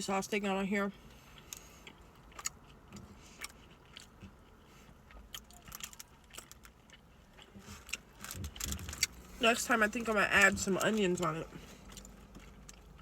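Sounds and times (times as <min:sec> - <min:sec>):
person chewing food: 0:01.0 - 0:13.0.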